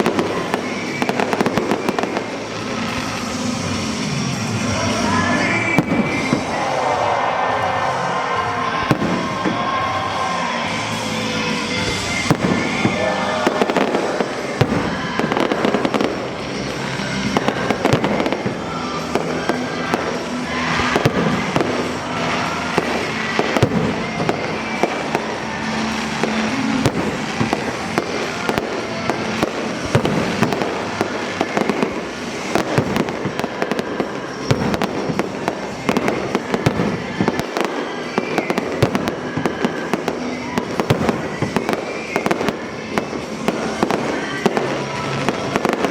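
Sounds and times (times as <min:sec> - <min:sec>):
music playing: 0:00.0 - 0:45.9
fireworks shells bursting: 0:08.8 - 0:45.9.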